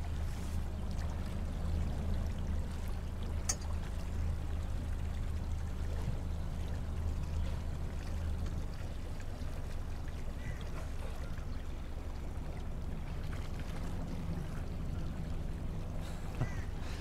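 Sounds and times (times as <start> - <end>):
outboard motor idling: 0.0 - 17.0
water washing along hull: 0.0 - 17.0.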